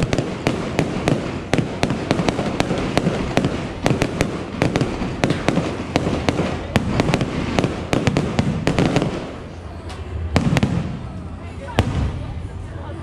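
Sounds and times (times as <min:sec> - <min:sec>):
continuous rumble: 0:00.0 - 0:13.0.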